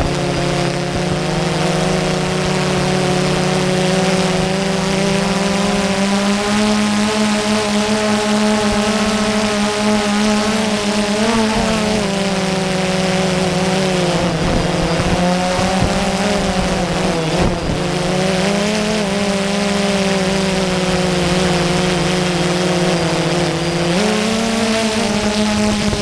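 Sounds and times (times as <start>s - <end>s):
drone propellers humming: 0.0s - 26.0s.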